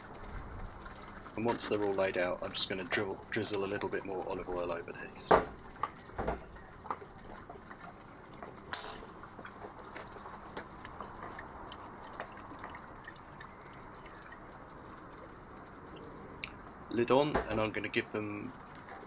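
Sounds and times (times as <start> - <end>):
small drip ticks: 0.0 - 17.0
oil trickling: 0.0 - 18.9.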